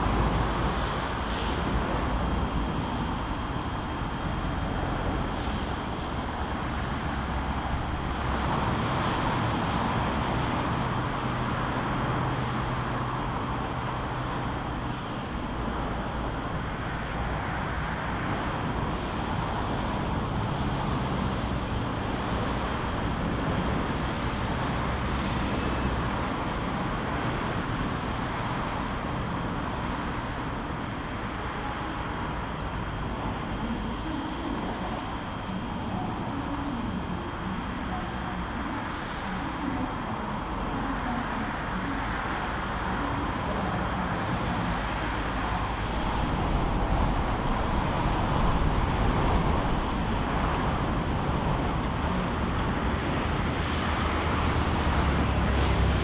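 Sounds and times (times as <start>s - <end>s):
electric trains humming: 0.0s - 56.0s.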